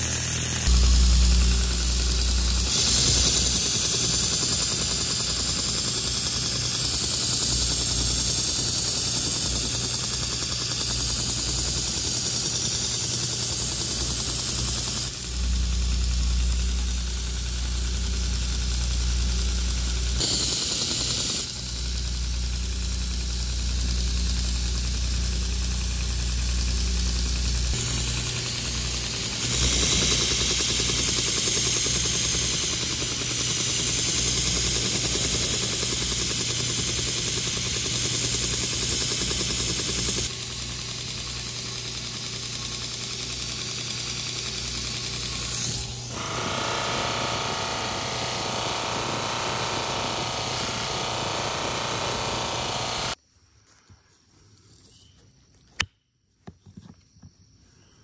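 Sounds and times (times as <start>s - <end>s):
belt grinder motor hum: 0.0s - 53.2s.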